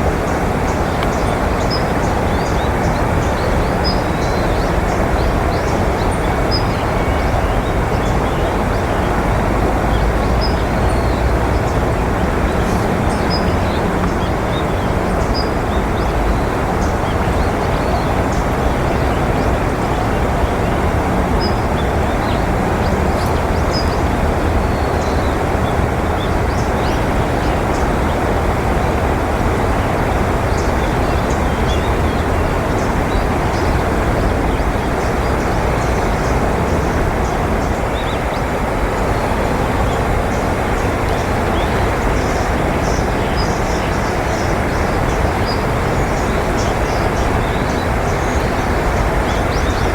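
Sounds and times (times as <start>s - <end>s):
distant road traffic: 0.0s - 49.9s.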